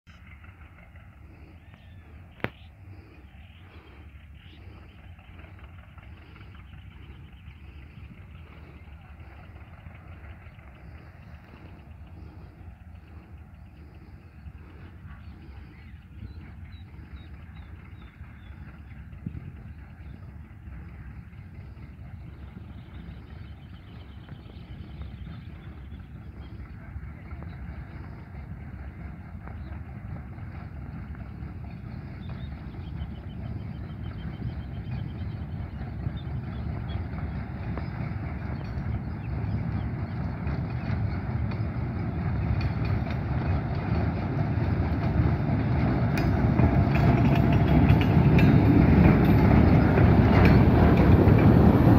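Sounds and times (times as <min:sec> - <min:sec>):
steady low rumble: 0:00.1 - 0:51.9.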